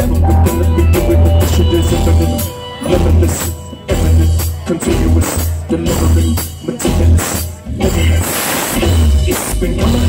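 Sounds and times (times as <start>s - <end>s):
bass: 0.0s - 10.0s
drums: 0.0s - 10.0s
guitars: 0.0s - 10.0s.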